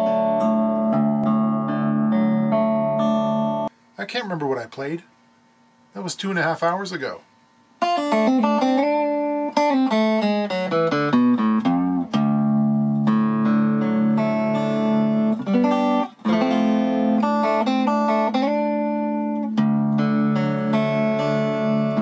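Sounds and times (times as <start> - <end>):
archtop guitar playing: 0.0 - 3.7, 7.8 - 22.0.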